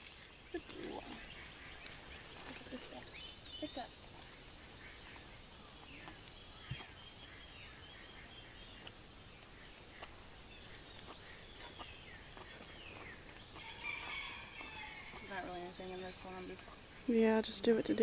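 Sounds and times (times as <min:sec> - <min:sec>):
birds chirping: 0:00.0 - 0:18.0
high insect drone: 0:00.0 - 0:18.0.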